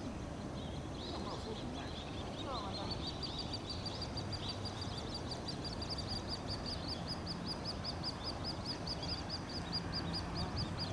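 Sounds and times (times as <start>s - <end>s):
small bird chirping: 0.4s - 10.9s.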